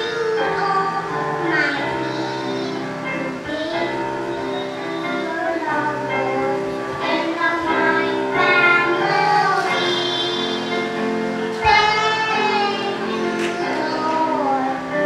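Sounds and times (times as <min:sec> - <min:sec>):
children singing gospel song: 0:00.0 - 0:15.0
instrumental accompaniment: 0:00.0 - 0:15.0.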